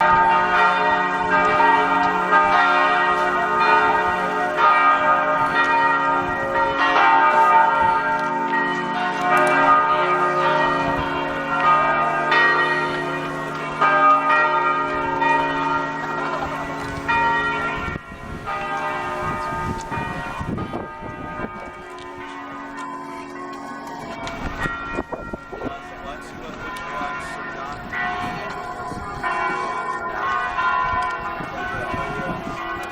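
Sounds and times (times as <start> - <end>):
church bells pealing: 0.0 - 32.9.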